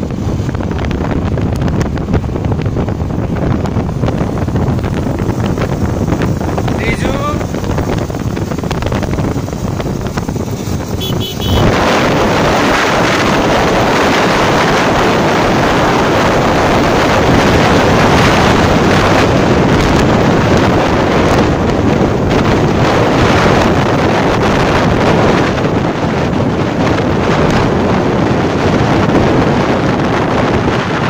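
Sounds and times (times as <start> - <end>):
motorcycle road noise: 0.0 - 31.0
wind buffeting microphone: 0.0 - 31.0.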